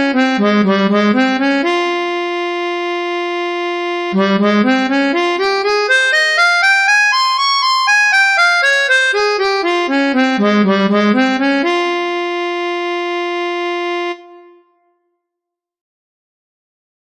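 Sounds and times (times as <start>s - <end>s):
synthesized harmonica scale run: 0.0s - 14.8s.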